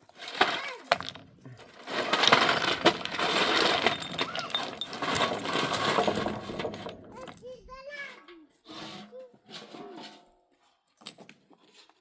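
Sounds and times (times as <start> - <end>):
hard objects scraping and clattering: 0.0 - 10.5.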